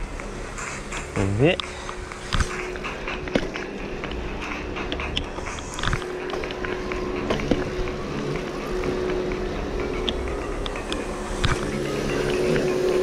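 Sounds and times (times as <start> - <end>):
bicycle tyre and road noise: 0.0 - 13.0
steady tone: 0.0 - 13.0.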